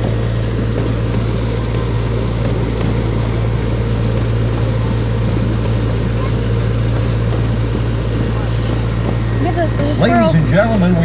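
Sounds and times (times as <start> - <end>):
low engine hum: 0.0 - 11.0
train rumbling: 0.0 - 11.0.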